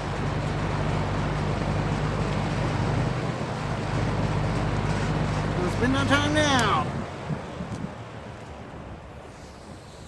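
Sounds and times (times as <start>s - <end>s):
air rushing from fan blades: 0.0s - 10.0s.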